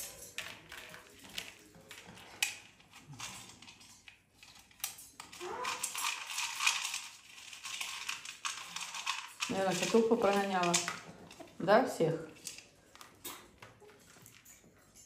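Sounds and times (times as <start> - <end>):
cockatoo cracking corn kernels: 0.0 - 11.6, 12.3 - 14.9.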